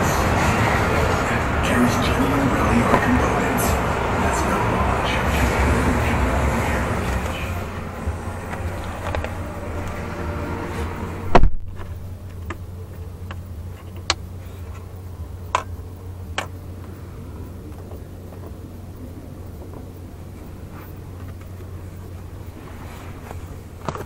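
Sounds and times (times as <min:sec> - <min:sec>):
outside hum: 0:00.0 - 0:24.0.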